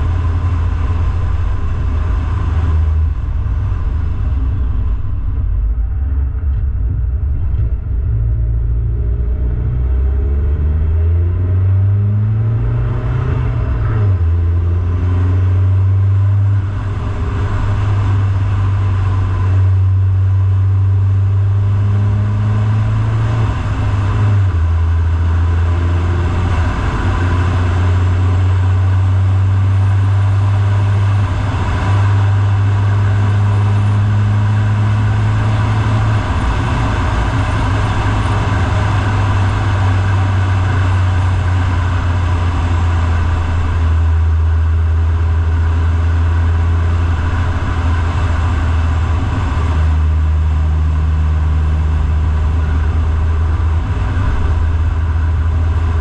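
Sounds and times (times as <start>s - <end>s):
car engine drone: 0.0s - 56.0s
road noise: 0.0s - 56.0s.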